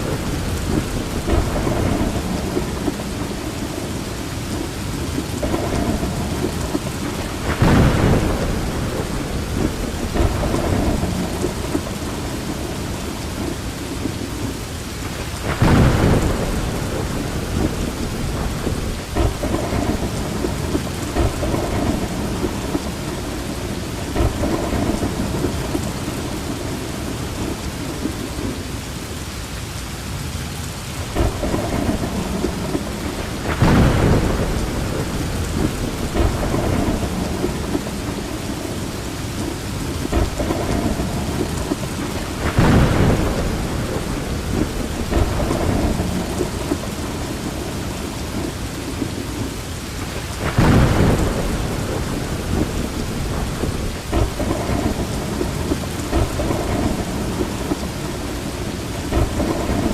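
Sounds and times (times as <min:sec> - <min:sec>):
thunder rumbling: 0:00.0 - 0:28.7, 0:30.9 - 0:59.9
steady rain: 0:00.0 - 0:59.9.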